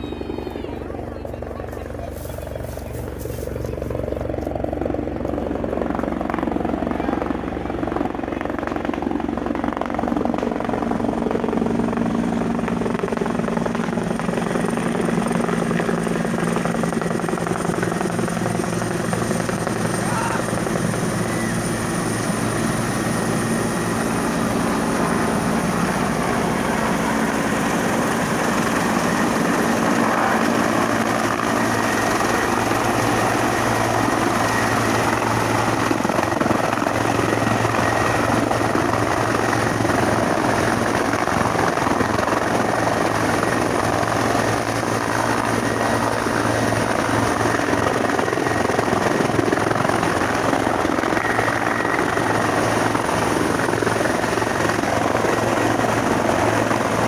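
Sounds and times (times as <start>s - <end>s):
helicopter rotor noise: 0.0s - 57.0s
turbine engine high whine: 0.0s - 57.0s.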